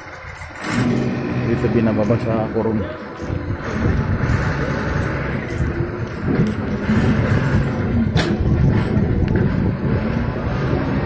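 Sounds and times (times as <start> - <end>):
ship engines rumbling: 0.0 - 11.0.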